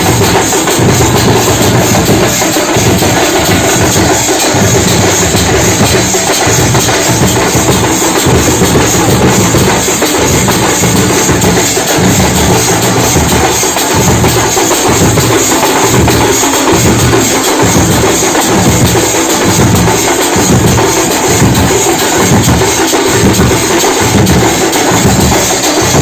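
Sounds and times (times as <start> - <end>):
drum band beating drums: 0.0 - 26.0.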